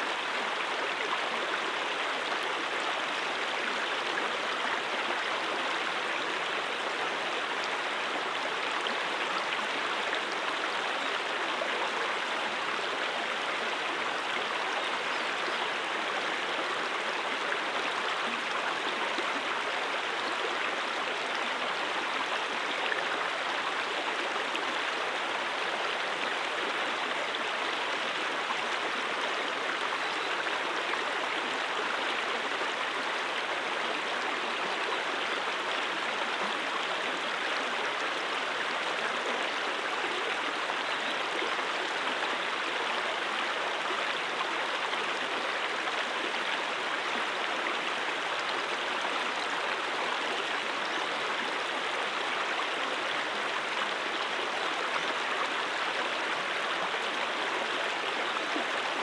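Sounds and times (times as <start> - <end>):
brook water babbling: 0.0 - 59.0.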